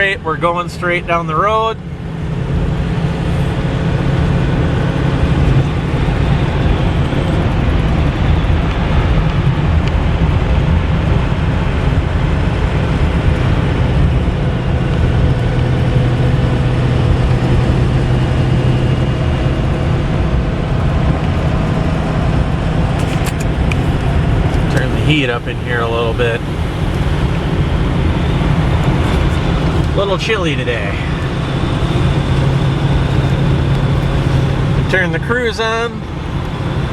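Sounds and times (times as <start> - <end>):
truck engine hum: 0.0 - 36.9
tyre and road noise: 0.0 - 36.9.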